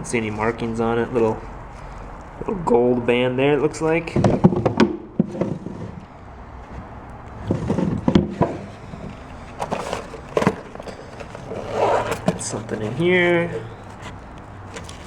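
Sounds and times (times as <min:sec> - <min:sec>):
drawers and small items moved: 0:00.0 - 0:02.6, 0:03.6 - 0:15.0.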